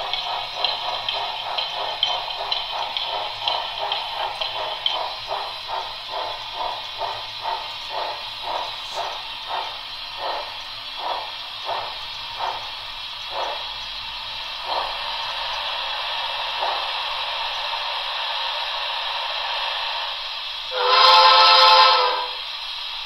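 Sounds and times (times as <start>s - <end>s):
model locomotive chuffing: 0.0s - 23.0s
steady steam hiss: 0.0s - 23.0s.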